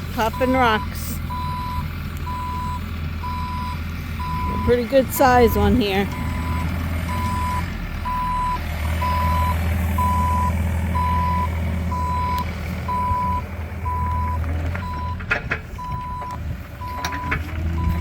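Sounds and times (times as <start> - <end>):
excavator engine drone: 0.0 - 18.0
excavator warning beeps: 0.2 - 18.0.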